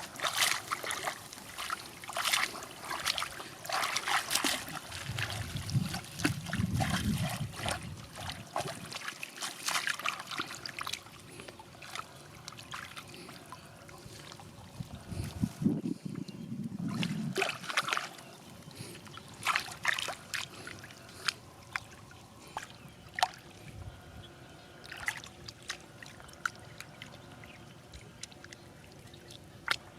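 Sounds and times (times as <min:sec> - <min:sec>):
water splashing and trickling: 0:00.0 - 0:29.9.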